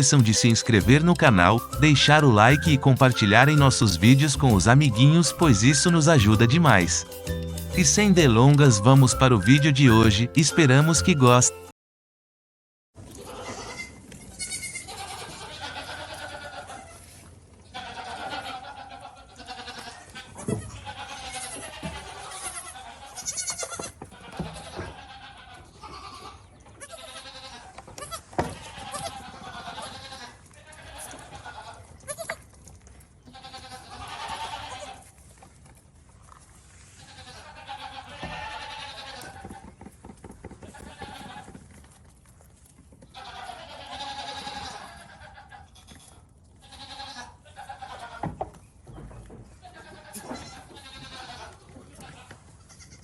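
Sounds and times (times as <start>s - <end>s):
goats bleating: 0.0s - 11.6s, 13.2s - 17.1s, 17.7s - 32.5s, 33.3s - 35.1s, 36.9s - 39.6s, 40.6s - 41.6s, 43.1s - 48.4s, 49.6s - 53.0s.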